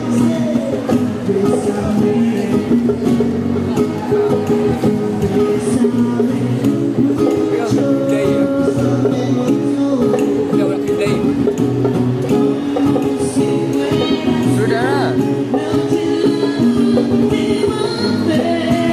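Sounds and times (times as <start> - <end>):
percussive beat: 0.0 - 18.9
plucked string chords: 0.0 - 18.9.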